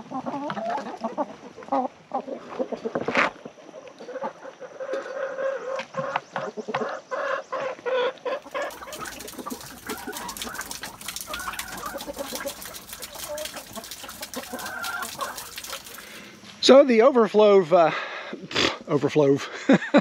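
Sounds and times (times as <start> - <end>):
hens clucking: 0.0 - 16.4.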